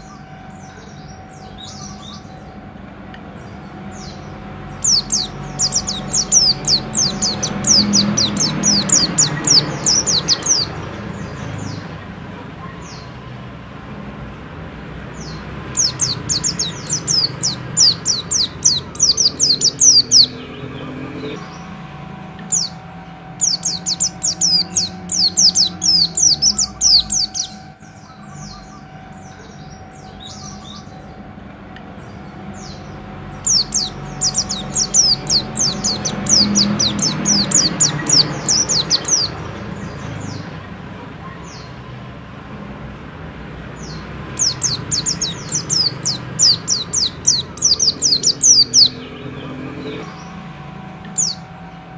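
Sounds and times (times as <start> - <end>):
bird chattering song: 0.0 - 2.6, 3.4 - 13.2, 15.1 - 31.2, 31.8 - 41.8, 43.6 - 51.7
low background hum: 0.0 - 51.9.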